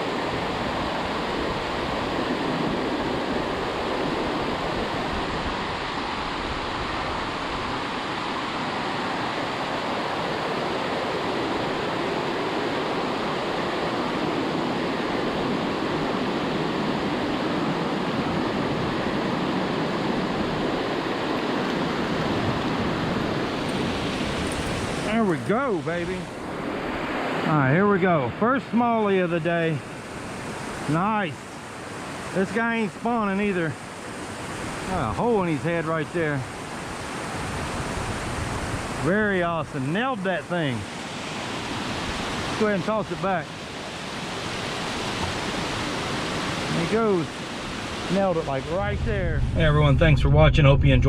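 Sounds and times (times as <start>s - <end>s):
creek water rushing: 0.0s - 50.1s.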